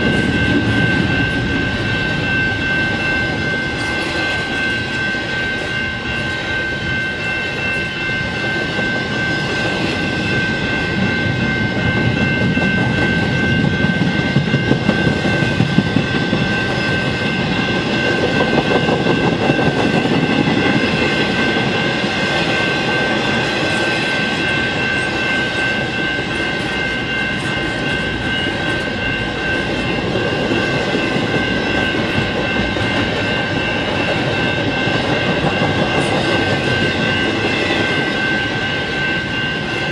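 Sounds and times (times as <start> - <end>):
crossing bell ringing: 0.0 - 39.9
train wheels rumbling and clattering: 0.0 - 39.9.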